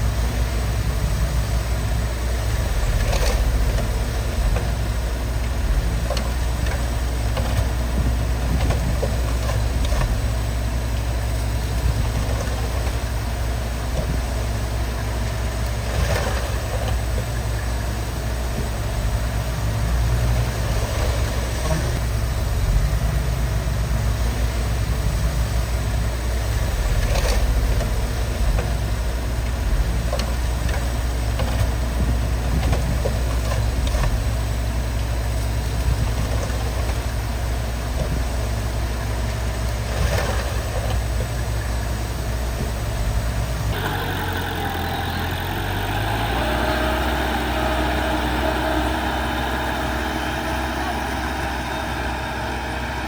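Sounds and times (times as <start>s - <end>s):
engine humming: 0.0s - 53.0s
heavy diesel machinery running: 0.0s - 53.0s.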